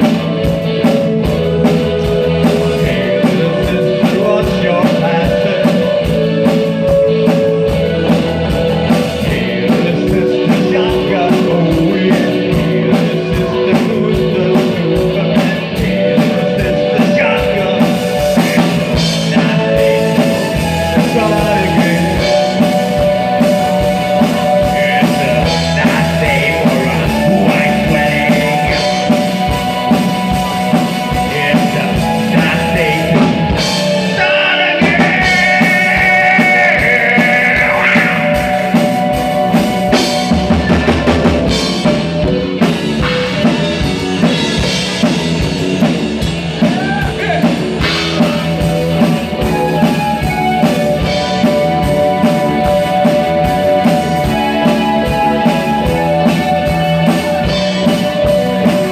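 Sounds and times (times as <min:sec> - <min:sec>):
live rock band playing: 0:00.0 - 0:58.9
man singing: 0:00.8 - 0:45.2, 0:46.6 - 0:58.9.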